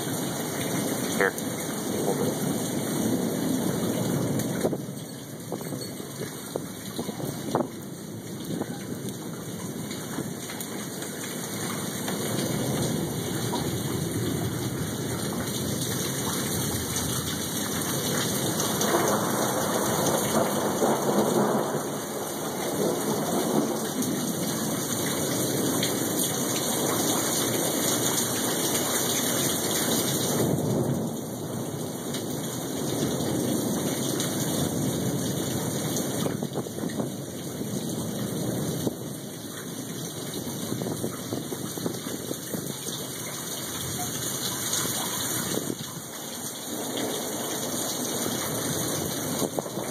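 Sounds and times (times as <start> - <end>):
rain falling: 0.0 - 49.9
thunder rumbling: 0.0 - 49.9.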